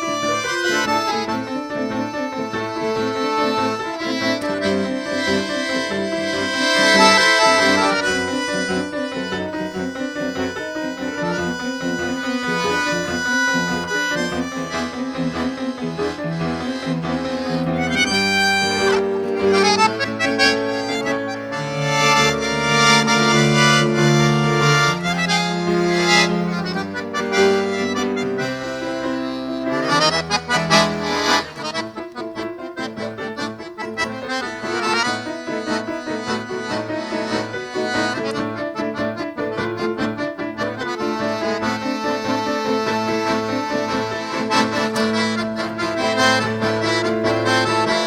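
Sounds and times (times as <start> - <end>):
tango music on electronic keyboard: 0.0 - 48.0.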